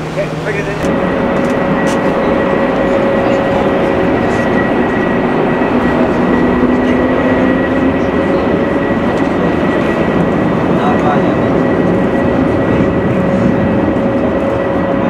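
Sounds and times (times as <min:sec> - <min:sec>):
jet engines at high thrust: 0:00.0 - 0:15.0.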